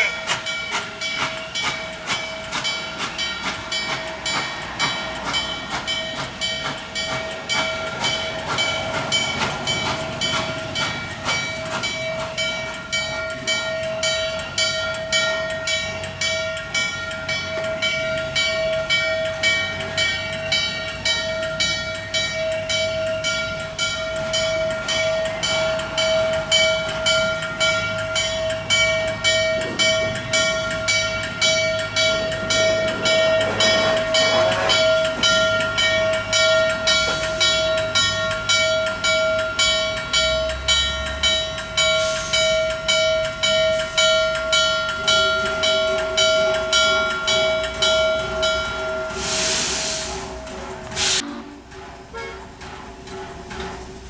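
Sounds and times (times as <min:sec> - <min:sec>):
steam locomotive running: 0:00.0 - 0:54.0.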